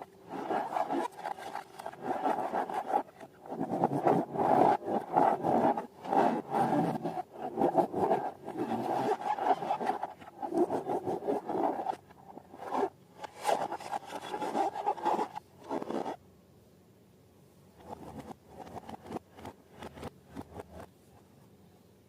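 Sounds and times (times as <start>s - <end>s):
rubbery scraping and rubbing: 0.0s - 16.2s, 17.8s - 20.9s.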